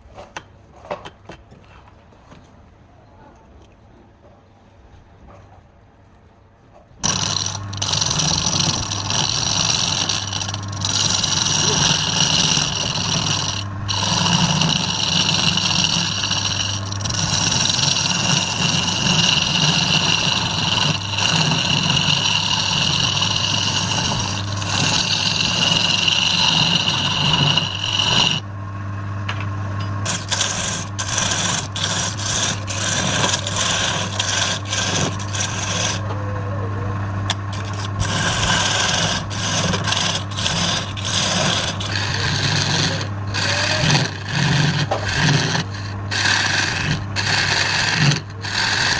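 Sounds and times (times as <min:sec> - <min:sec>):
tool scraping spinning wood: 0:07.0 - 0:28.5, 0:29.8 - 0:36.3, 0:37.2 - 0:48.9
lathe motor hum: 0:07.0 - 0:29.0, 0:29.7 - 0:36.1, 0:36.9 - 0:48.9.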